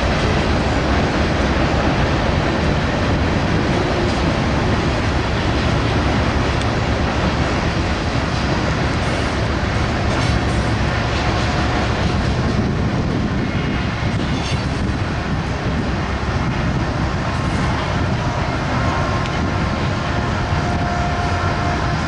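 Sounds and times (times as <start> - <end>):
freight train cars rolling past: 0.0 - 22.0.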